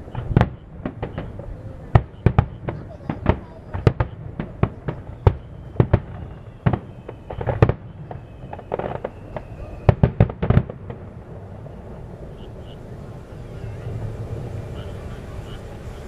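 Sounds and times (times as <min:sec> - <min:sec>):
firework bangs: 0:00.0 - 0:16.0
firework crackling: 0:00.0 - 0:16.0.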